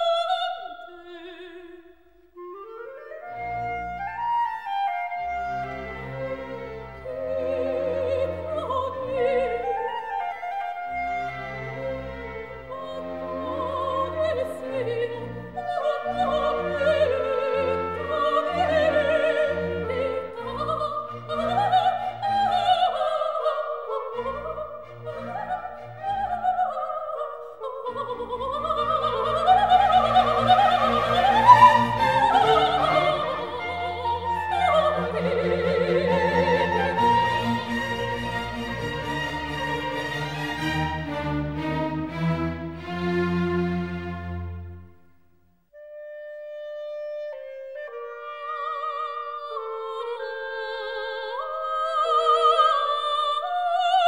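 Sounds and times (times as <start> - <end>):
soprano singing: 0.0 - 43.2, 47.3 - 54.0
string orchestra: 2.3 - 45.2, 45.8 - 54.0
clarinet: 2.4 - 42.1, 43.3 - 54.0.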